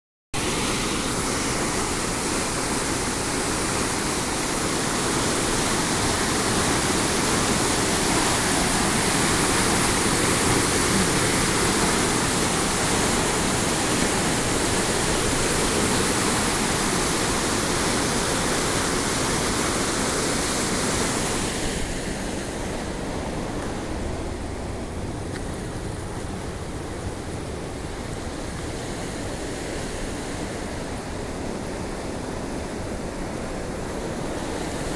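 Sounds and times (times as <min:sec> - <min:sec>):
water rushing over a weir: 0:00.4 - 0:34.9.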